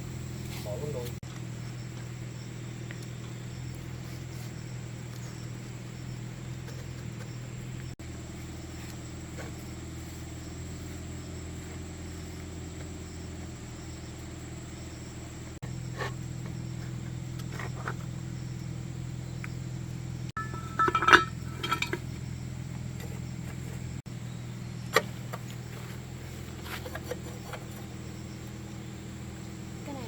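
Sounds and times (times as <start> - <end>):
engine humming steadily: 0.0 - 30.0.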